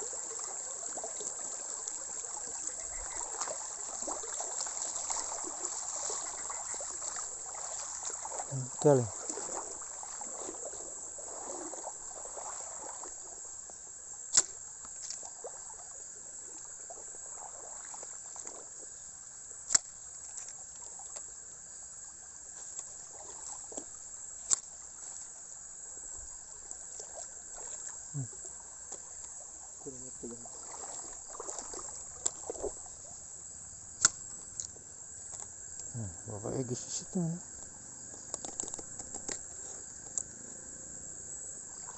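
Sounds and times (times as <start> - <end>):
stream trickling over rocks: 0.0 - 40.4
crickets chirring: 0.0 - 41.9.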